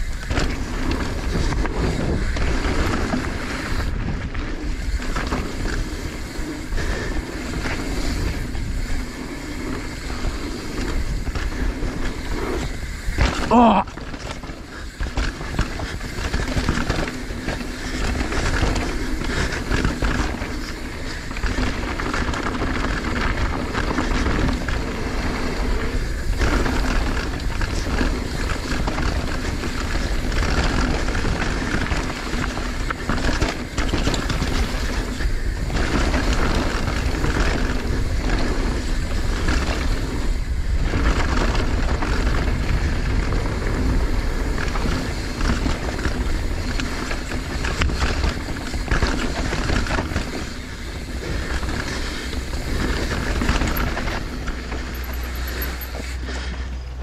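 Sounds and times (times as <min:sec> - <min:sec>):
bike knocks and rattles: 0:00.0 - 0:57.0
wind rushing over microphone: 0:00.0 - 0:57.0.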